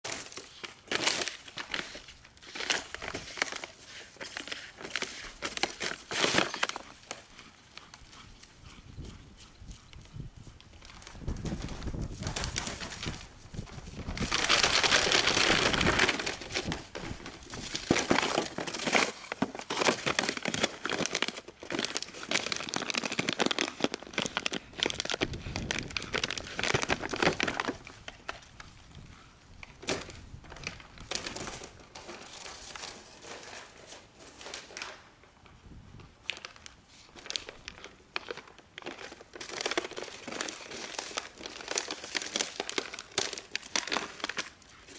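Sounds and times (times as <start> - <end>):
plastic bottle crinkling: 0.0 - 8.0, 10.7 - 29.0, 29.6 - 35.1, 36.2 - 44.9.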